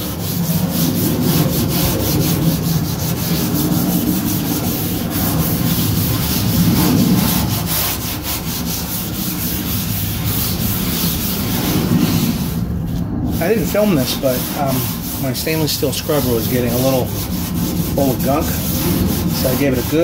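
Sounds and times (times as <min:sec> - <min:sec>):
plane droning overhead: 0:00.0 - 0:20.0
steel scrubber scouring metal: 0:00.0 - 0:20.0.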